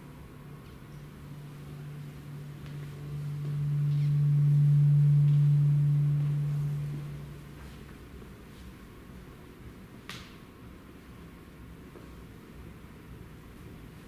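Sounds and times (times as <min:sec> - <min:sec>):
low electronic hum tone: 0:00.0 - 0:14.0.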